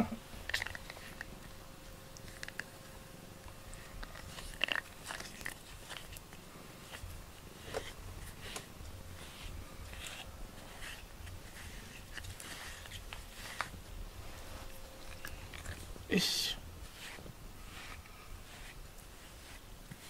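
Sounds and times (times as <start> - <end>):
soft rubbing: 0.3 - 20.0
cat nibbling rubber brush: 0.4 - 20.0.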